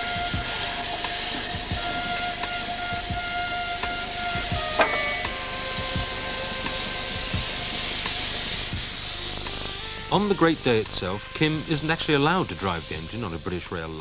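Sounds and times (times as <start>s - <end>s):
steam hissing from locomotive: 0.0s - 14.0s.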